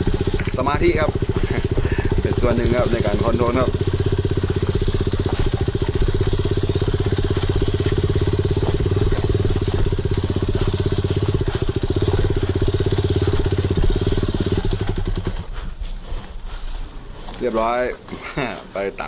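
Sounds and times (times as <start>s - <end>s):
dirt bike engine running: 0.0s - 17.8s.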